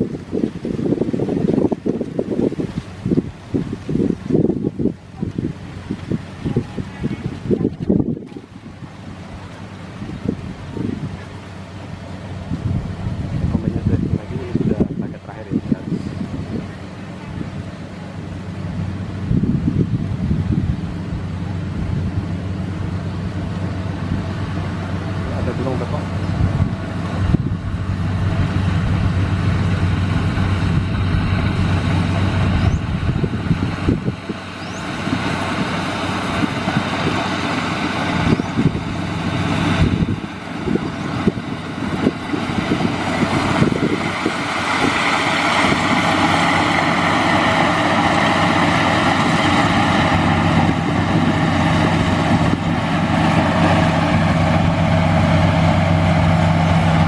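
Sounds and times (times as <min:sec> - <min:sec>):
combine harvester engine hum: 0:00.0 - 0:57.0
rushing machinery noise: 0:00.0 - 0:57.0.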